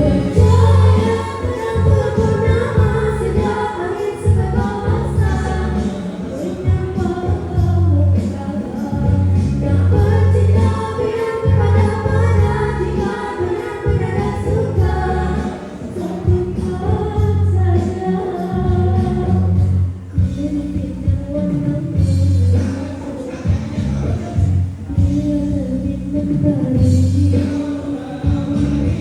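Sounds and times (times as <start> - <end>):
backing track with pulsing bass: 0.0 - 29.0
girls singing a pop duet: 0.0 - 29.0.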